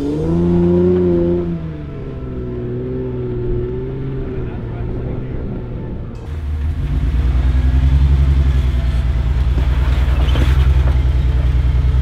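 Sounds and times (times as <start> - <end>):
engine exhaust rumble: 0.0 - 12.0.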